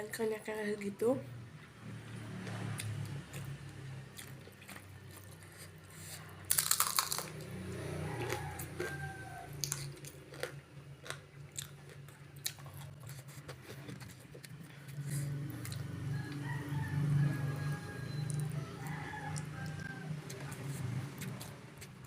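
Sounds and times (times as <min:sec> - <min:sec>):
person chewing crunchy vegetables: 0:02.6 - 0:16.8, 0:18.1 - 0:22.0.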